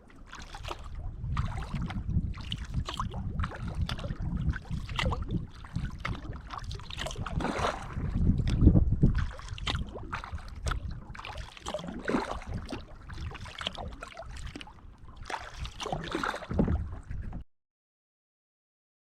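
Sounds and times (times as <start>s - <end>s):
paddle splashing in water: 0.0s - 17.4s.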